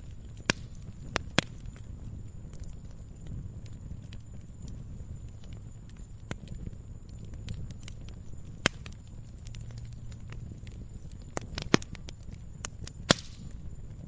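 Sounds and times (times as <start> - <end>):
firewood logs crackling: 0.0 - 14.0
low rumble of flames: 0.0 - 14.0.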